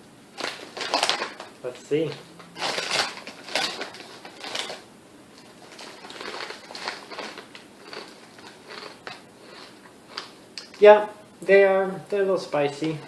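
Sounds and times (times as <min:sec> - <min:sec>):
potato chip crunching: 0:00.3 - 0:11.0.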